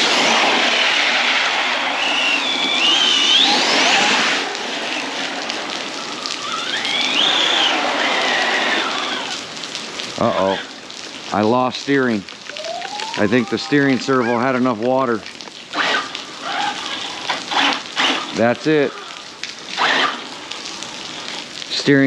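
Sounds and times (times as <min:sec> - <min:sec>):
heavy rain and water spray: 0:00.0 - 0:22.0.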